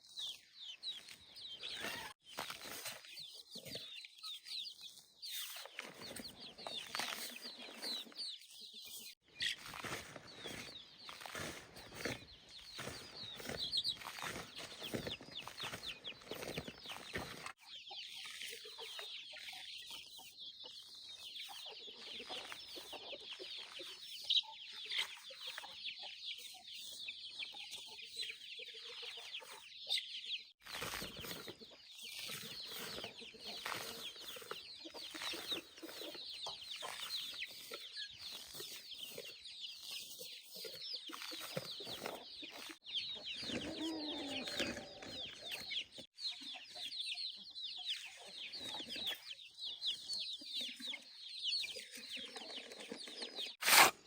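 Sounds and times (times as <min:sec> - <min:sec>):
chickens clucking: 0:00.0 - 0:53.8.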